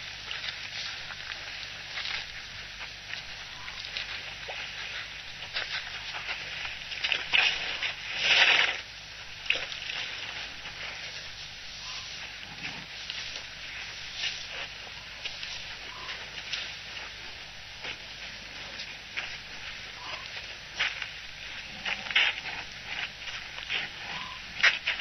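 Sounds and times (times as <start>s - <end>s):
crackling hissing noise: 0.0s - 25.0s.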